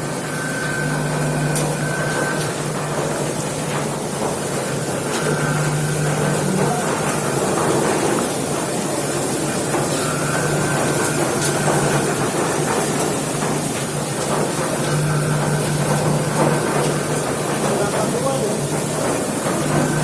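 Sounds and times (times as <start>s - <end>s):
sorting machine rattling: 0.9s - 20.0s.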